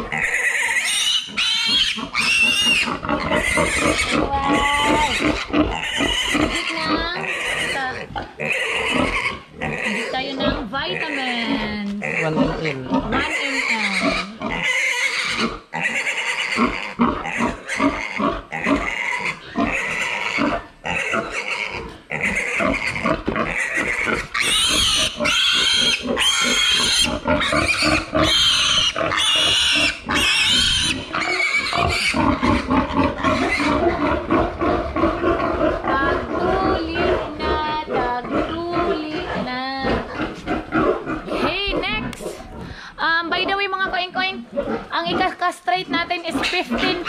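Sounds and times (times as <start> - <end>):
piglet squealing: 0.0 - 42.5, 46.3 - 47.0.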